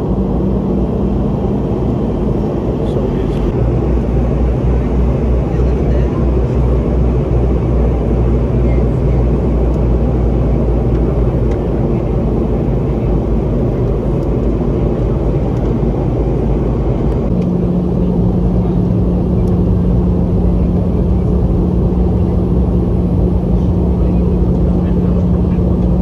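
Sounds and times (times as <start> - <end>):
airplane cabin engine noise: 0.0 - 26.0
steady hum: 0.0 - 26.0.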